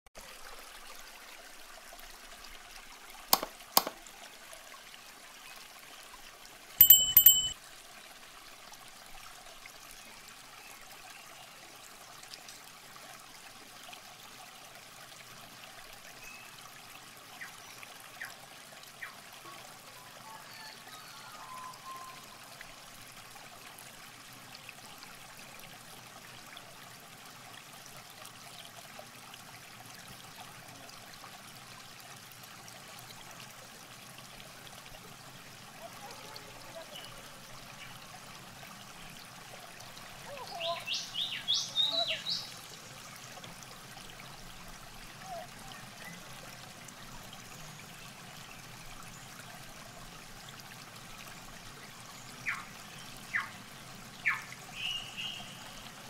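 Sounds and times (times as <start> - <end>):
river water trickling: 0.2 - 56.0.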